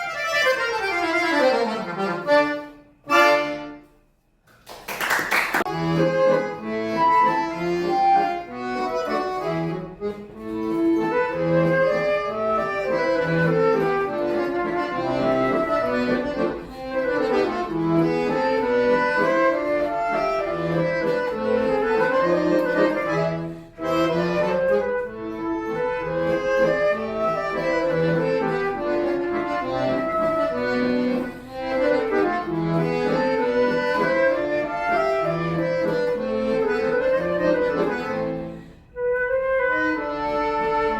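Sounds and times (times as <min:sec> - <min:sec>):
accordion playing: 0:00.0 - 0:04.3, 0:05.2 - 0:40.9.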